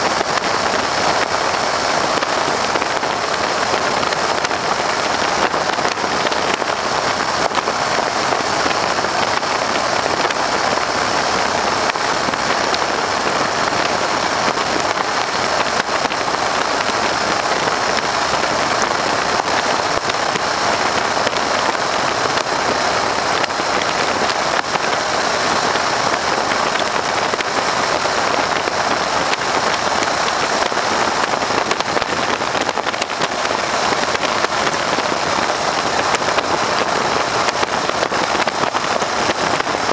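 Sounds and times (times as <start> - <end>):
biplane radial engine: 0.0 - 39.9.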